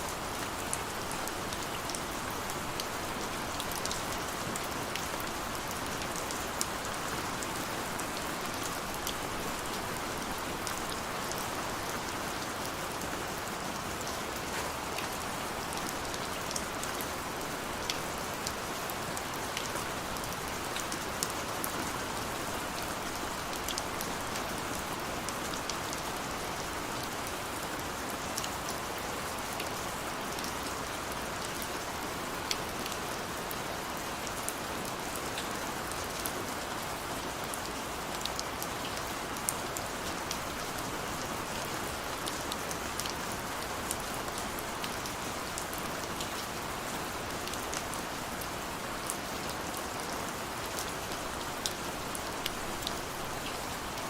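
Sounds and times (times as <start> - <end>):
steady rain hiss: 0.0 - 54.0
raindrops ticking on surfaces: 0.1 - 54.0.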